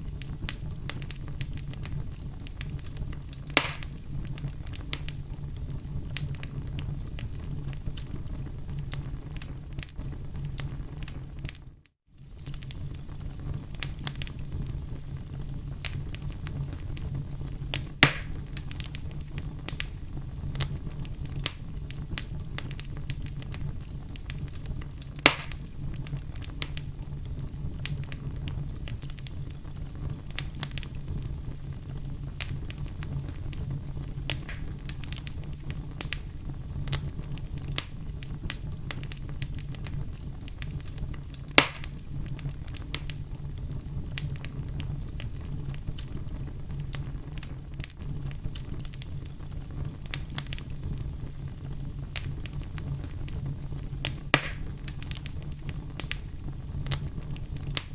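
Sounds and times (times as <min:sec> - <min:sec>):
burning wood popping: 0:00.0 - 0:11.6, 0:12.2 - 0:57.9
burning wood crackling: 0:00.0 - 0:57.9
fire flames rumbling: 0:00.0 - 0:57.9.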